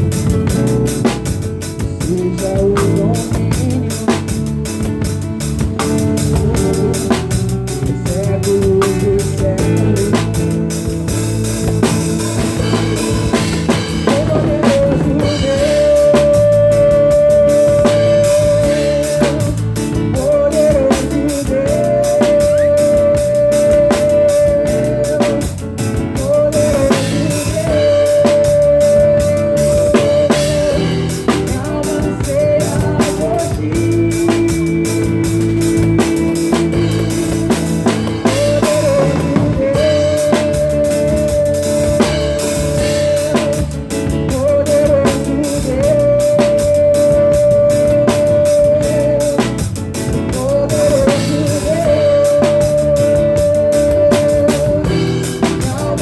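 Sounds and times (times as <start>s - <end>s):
drum kit beat: 0.0s - 56.0s.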